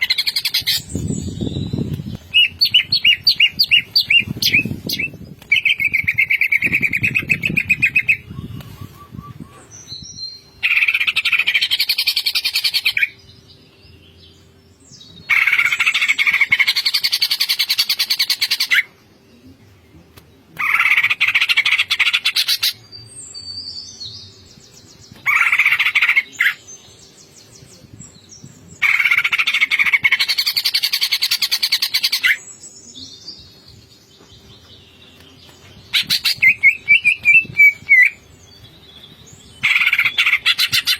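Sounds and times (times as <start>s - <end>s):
bird singing chattering song: 0.0s - 19.9s, 20.6s - 40.9s.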